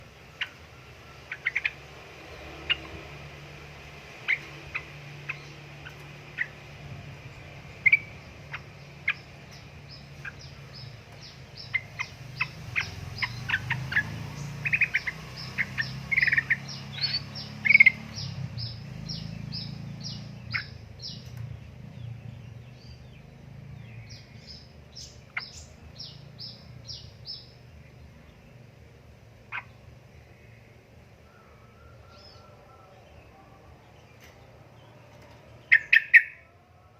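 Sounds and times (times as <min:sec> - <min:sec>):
steady low hum: 0:00.0 - 0:32.0
bulbuls chirping and chattering: 0:00.0 - 0:36.5.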